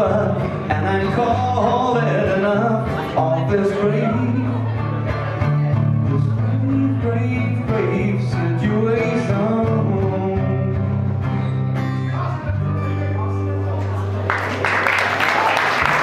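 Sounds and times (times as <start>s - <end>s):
reggae band playing: 0.0s - 14.2s.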